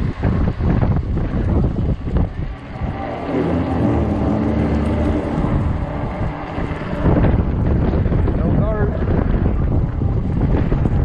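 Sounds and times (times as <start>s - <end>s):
electric motor hum: 0.0s - 11.0s
wind buffeting microphone: 0.0s - 11.0s.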